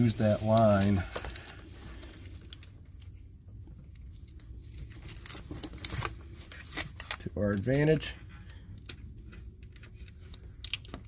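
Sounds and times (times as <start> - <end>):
hands handling rubber hose: 0.0 - 11.0
low steady rumble: 0.0 - 11.0.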